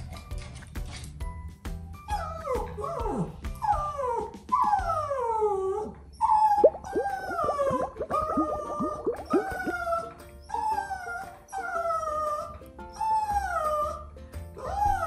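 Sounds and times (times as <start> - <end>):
dog whimpering: 2.1 - 14.0, 14.6 - 15.0
dog whining and howling: 2.1 - 15.0.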